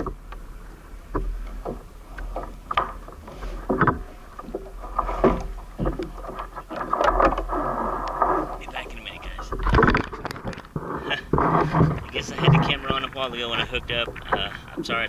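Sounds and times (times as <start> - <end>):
rustling noise: 0.0 - 14.9
gear knocking and clattering: 1.1 - 15.0.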